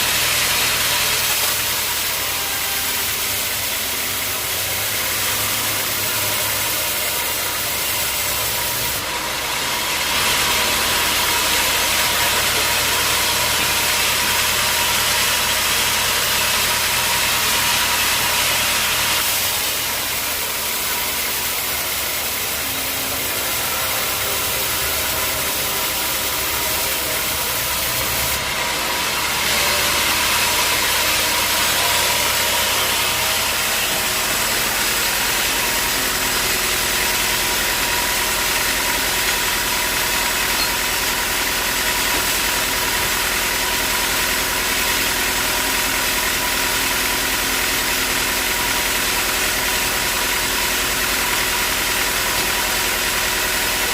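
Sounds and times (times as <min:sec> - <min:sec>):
saw cutting through log: 0:00.0 - 0:53.9.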